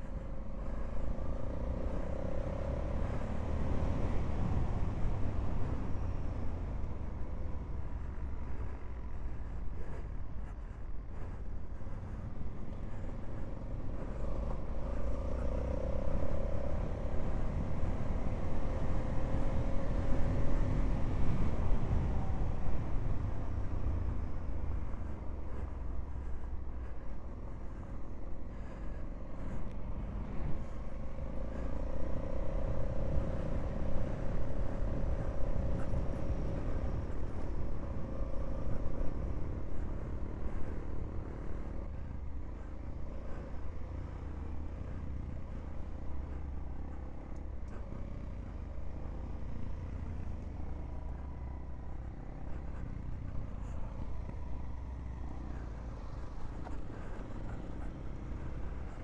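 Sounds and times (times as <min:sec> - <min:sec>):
motorcycle engine cruising: 0:00.0 - 0:59.0
wind rumble on microphone: 0:00.0 - 0:59.0.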